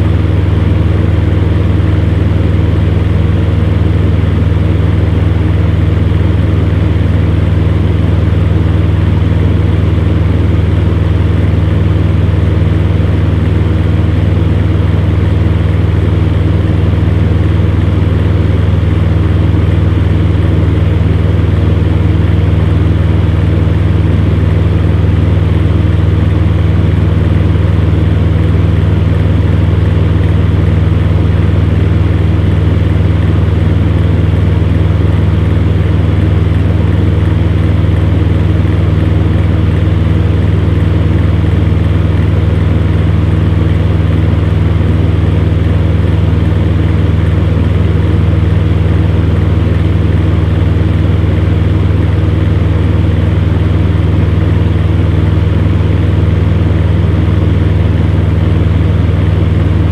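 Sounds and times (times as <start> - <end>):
fan heater air rush: 0.0 - 59.9
fan heater motor hum: 0.0 - 59.9.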